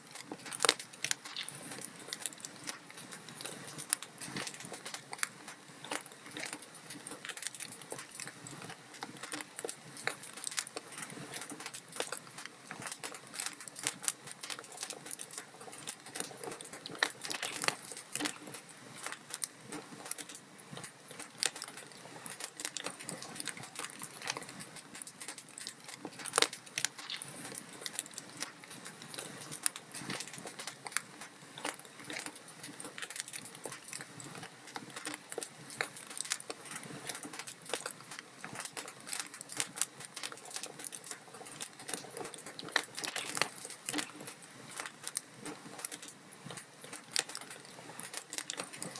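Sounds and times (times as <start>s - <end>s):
logs crackling in fireplace: 0.0s - 48.9s.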